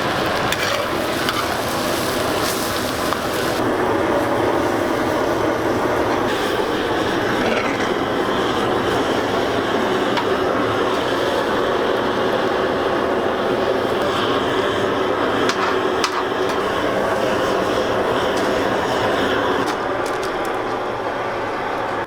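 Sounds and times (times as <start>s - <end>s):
food cooking in a pot: 0.0s - 22.0s.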